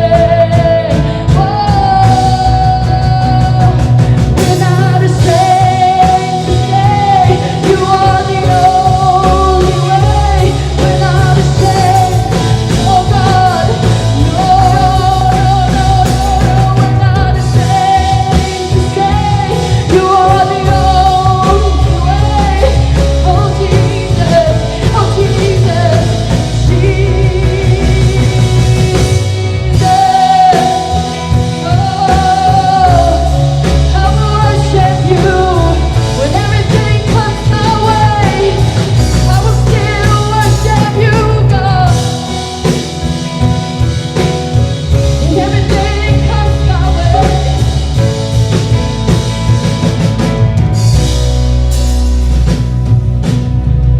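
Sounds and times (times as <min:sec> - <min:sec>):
person singing: 0:00.0 - 0:49.8
bass guitar: 0:00.0 - 0:53.9
drum kit: 0:00.0 - 0:53.9
electric guitar: 0:00.0 - 0:53.9.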